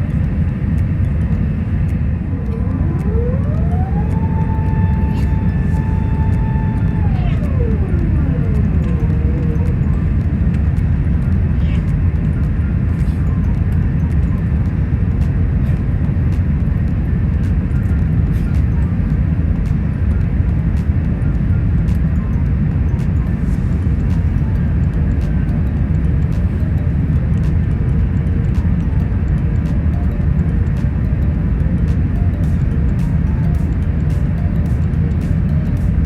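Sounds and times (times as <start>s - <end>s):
aircraft cabin engine and airflow rumble: 0.0s - 36.0s
faint ticks: 0.0s - 36.0s.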